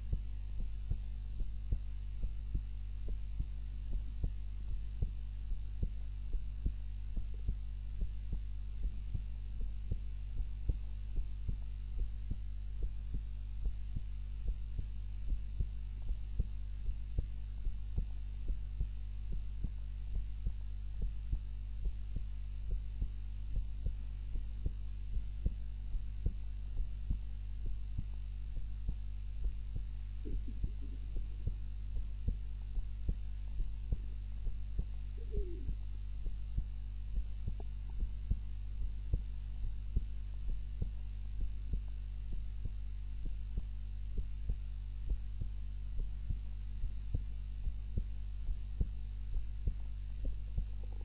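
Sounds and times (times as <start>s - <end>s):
low hum: 0.0s - 51.0s
slow heartbeat: 0.0s - 51.0s.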